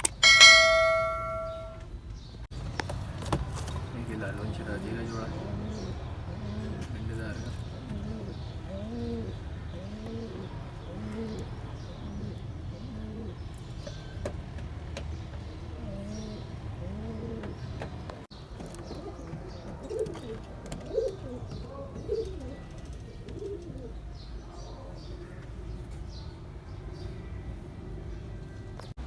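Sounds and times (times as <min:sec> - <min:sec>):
pigeons cooing: 0:03.7 - 0:28.8.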